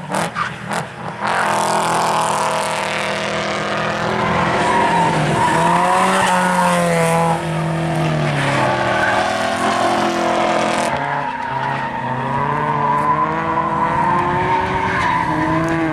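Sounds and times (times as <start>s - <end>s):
car engines revving: 0.0s - 15.9s.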